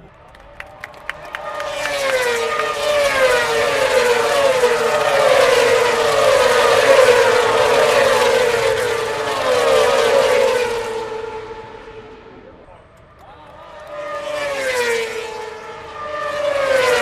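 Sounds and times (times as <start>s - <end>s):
racing motorcycles passing at high revs: 1.2s - 12.3s, 13.6s - 17.0s.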